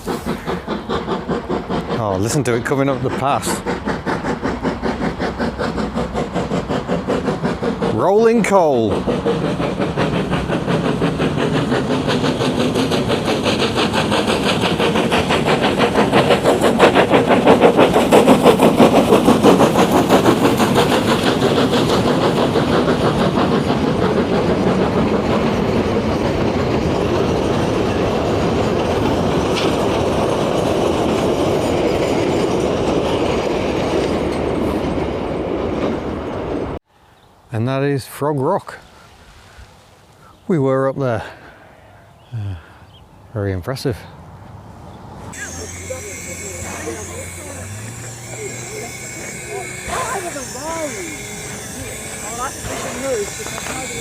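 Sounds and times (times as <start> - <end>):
steam locomotive chuffing: 0.0 - 36.8, 38.1 - 41.7, 42.4 - 54.0.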